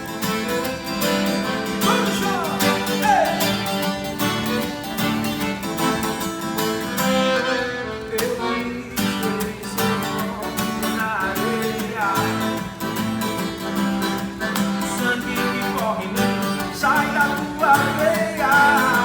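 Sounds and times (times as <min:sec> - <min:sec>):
guitar: 0:00.0 - 0:19.0.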